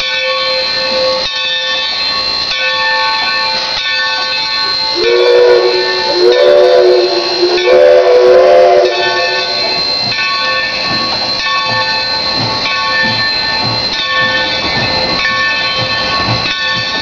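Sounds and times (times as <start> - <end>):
steady ringing tone: 0.0 - 17.0
steam locomotive chime whistle: 0.0 - 17.0
steam locomotive exhaust chuffing: 1.8 - 17.0.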